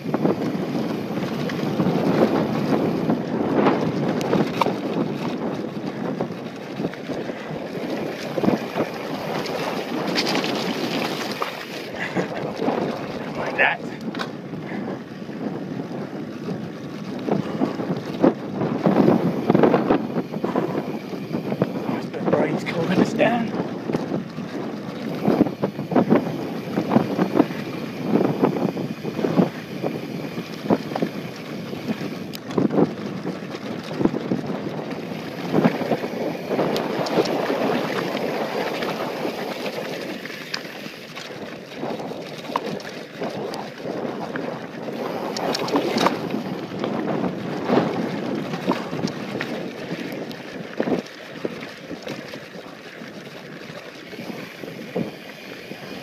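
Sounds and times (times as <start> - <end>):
bike knocking and rattling over rocks: 0.0 - 56.0
wind on microphone: 0.0 - 56.0.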